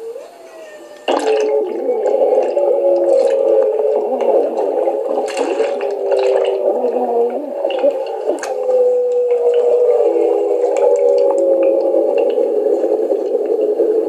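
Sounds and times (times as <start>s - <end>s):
underwater bubbling and dripping: 0.0s - 14.0s.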